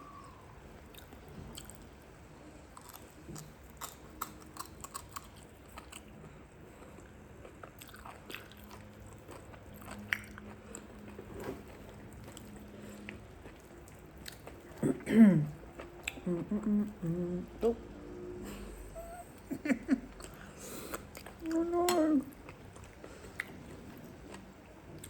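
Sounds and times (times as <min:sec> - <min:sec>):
person chewing food: 0:00.8 - 0:02.0, 0:02.7 - 0:17.8, 0:19.0 - 0:25.0.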